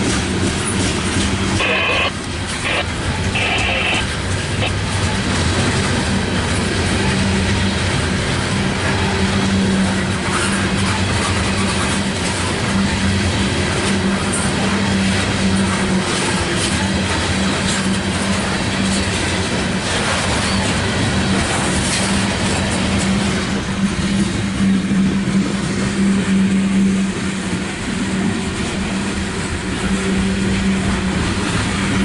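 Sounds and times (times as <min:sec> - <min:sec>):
clacks at rail joints: 0:00.0 - 0:03.3, 0:04.0 - 0:32.0
freight train wheels rumbling: 0:00.0 - 0:32.0.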